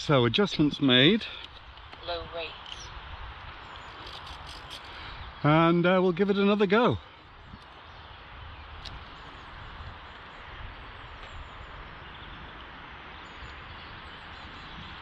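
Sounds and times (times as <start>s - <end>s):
wind rumbling on microphone: 0.0s - 6.2s, 6.9s - 15.0s.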